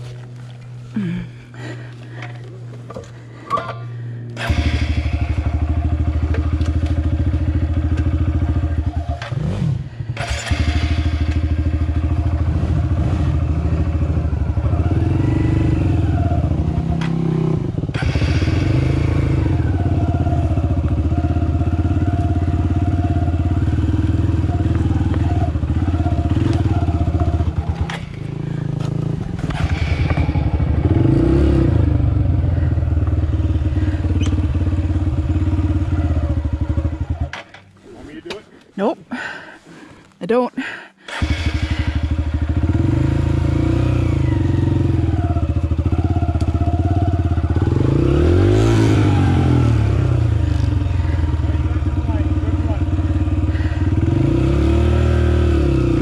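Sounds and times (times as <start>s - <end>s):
small motorcycle engine running: 0.0s - 38.2s, 41.1s - 56.0s.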